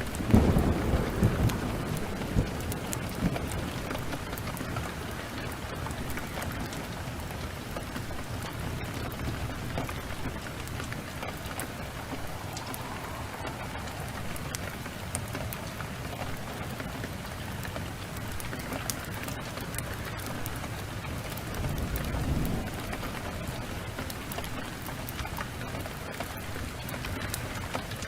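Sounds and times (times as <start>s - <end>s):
heavy rain pouring: 0.0s - 28.0s
wood fire crackling: 0.0s - 28.0s.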